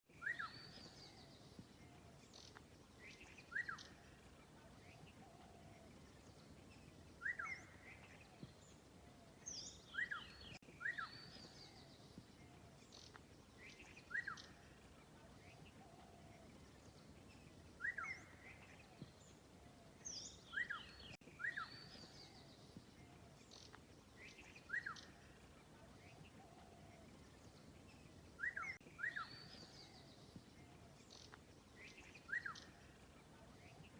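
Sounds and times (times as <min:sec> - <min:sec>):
birds chirping: 0:00.1 - 0:33.9
faint background hiss: 0:00.1 - 0:33.9.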